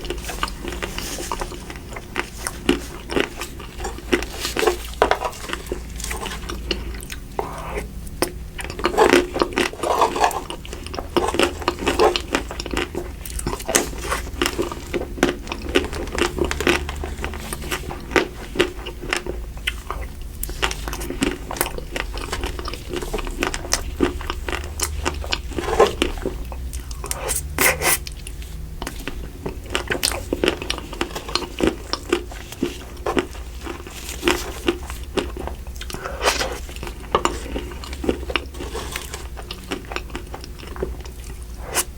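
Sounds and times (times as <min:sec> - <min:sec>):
ice cream crunching: 0:00.0 - 0:41.9
wet chewing and mouth sounds: 0:00.0 - 0:41.9.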